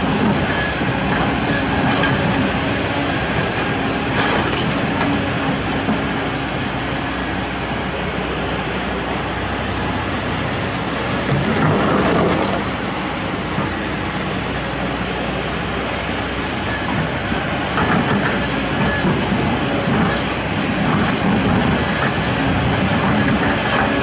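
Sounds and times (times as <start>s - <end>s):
excavator diesel engine under load: 0.0s - 24.0s.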